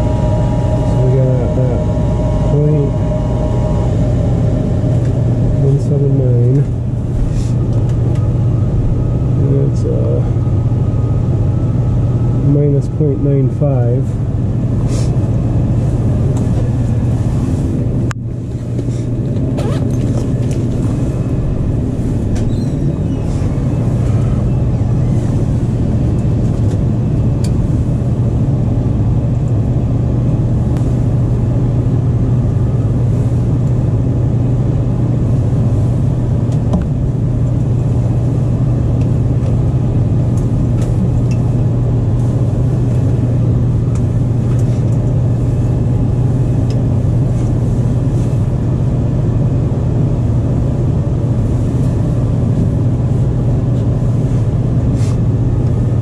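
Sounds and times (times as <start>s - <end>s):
furnace motor hum: 0.0s - 56.0s.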